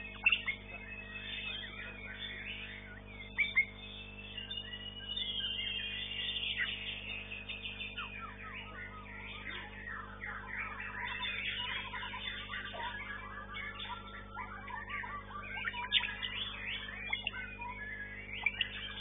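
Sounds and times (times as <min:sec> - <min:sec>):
birds singing whistles and chirps: 0:00.0 - 0:19.0.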